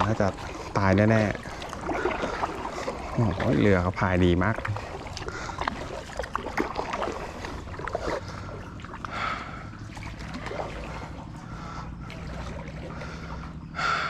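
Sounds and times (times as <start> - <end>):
kayak paddle splashing in water: 0.0 - 14.0.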